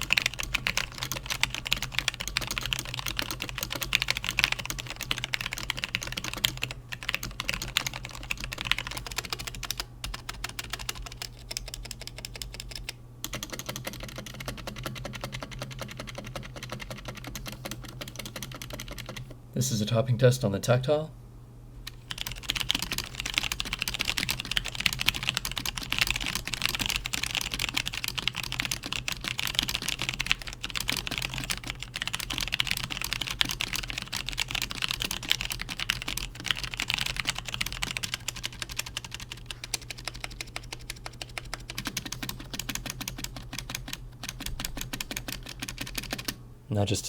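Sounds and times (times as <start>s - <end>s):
fast typing on mechanical keyboard: 0.0s - 19.3s, 21.9s - 46.4s.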